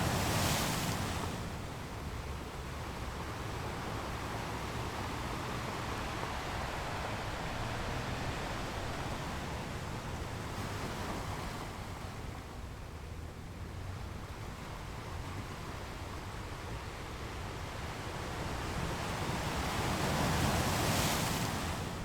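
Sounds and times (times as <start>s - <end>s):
ocean waves washing on beach: 0.0s - 22.0s.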